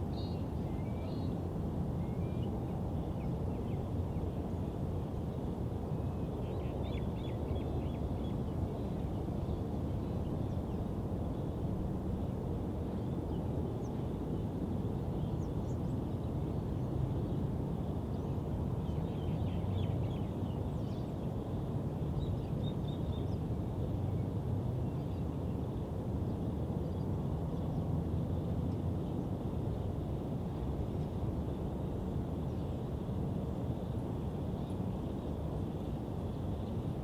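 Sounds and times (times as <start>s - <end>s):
low city rumble: 0.0s - 37.0s.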